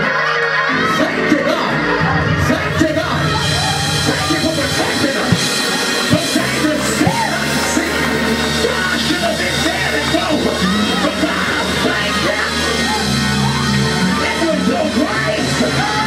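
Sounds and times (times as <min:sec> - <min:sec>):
live band playing praise music: 0:00.0 - 0:16.0
voices singing and shouting: 0:00.0 - 0:16.0.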